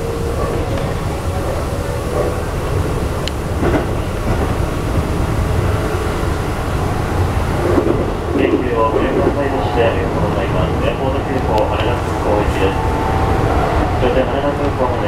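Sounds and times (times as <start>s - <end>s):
train rumble on track: 0.0s - 15.0s.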